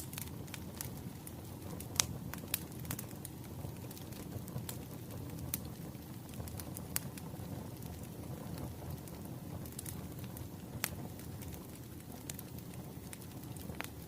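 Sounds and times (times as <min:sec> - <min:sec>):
fire crackles and pops: 0:00.0 - 0:14.0
wood fire rumble: 0:00.0 - 0:14.0.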